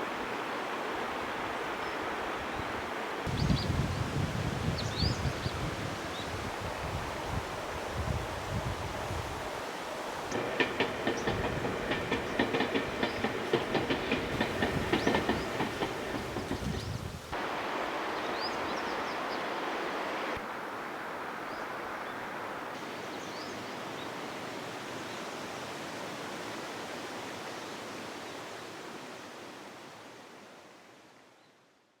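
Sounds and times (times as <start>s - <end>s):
flowing river water: 4.0s - 31.0s.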